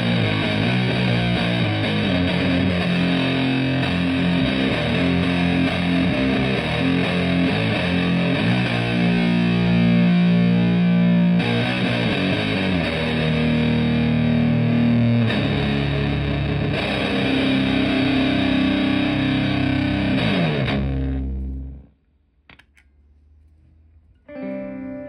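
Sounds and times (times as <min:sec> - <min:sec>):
fuzz-distorted guitar chords: 0:00.0 - 0:21.9, 0:24.2 - 0:25.0.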